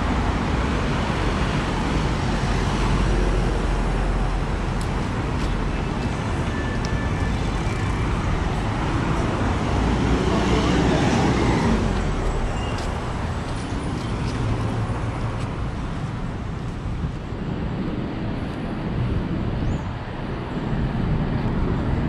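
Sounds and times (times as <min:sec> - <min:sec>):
low hum of city traffic: 0:00.0 - 0:22.0.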